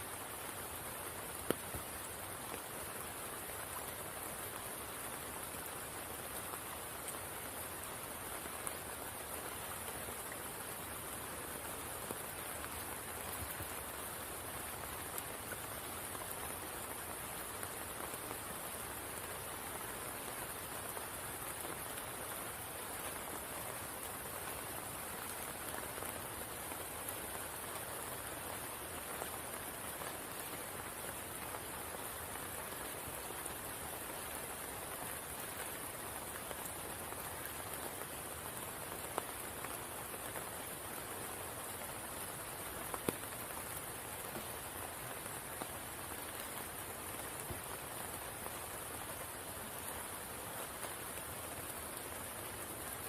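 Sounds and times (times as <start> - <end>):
rain falling on water: 0.0 - 53.0.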